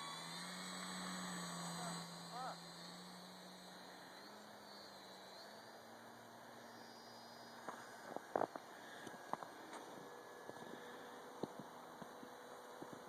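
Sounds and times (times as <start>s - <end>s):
electric model airplane motor hum: 0.0s - 13.0s.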